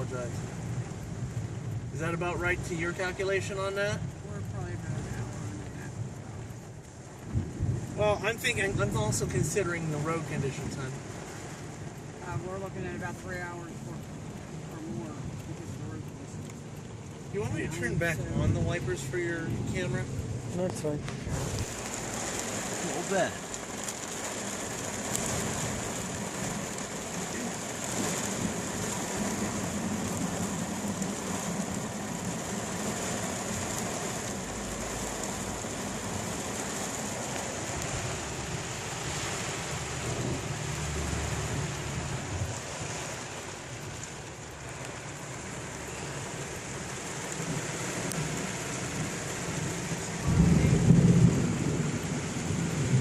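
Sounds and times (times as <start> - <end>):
rain on car roof: 0.0 - 53.0
thunder rumble: 7.2 - 53.0.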